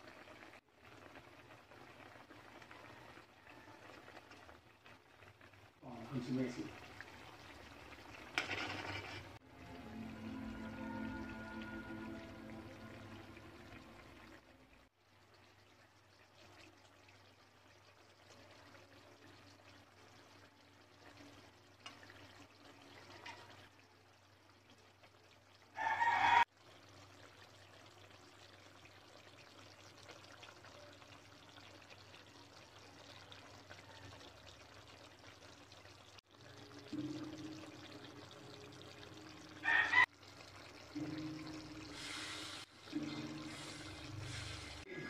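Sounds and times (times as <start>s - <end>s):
food bubbling in a wok: 0.0s - 45.0s.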